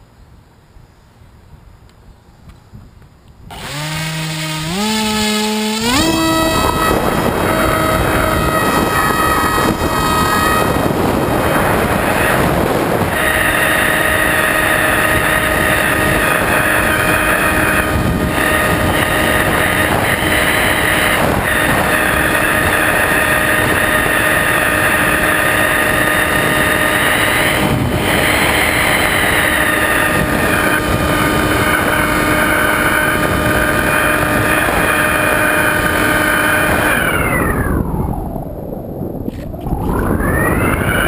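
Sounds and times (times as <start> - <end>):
electric motor and propeller whine: 3.5 - 41.0.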